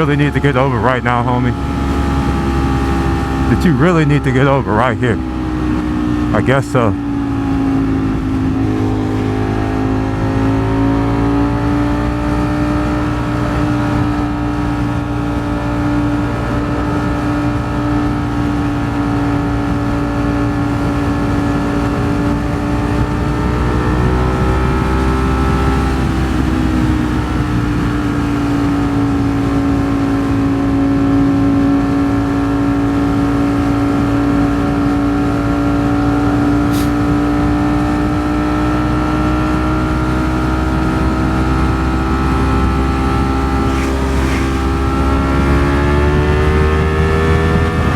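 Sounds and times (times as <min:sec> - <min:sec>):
motorcycle engine cruising: 0:00.0 - 0:47.9
wind and road noise: 0:00.0 - 0:47.9.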